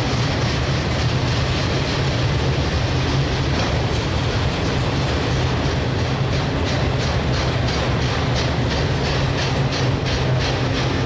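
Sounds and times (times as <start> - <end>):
freight train wheels on rail: 0.0 - 11.0.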